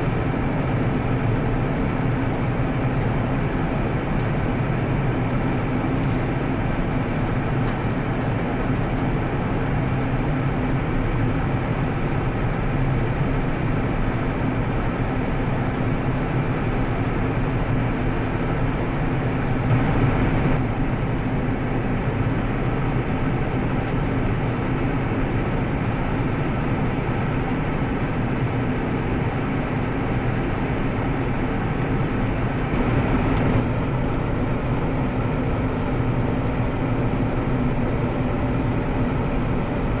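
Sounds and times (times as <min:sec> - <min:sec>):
jet engines droning: 0:00.0 - 0:40.0.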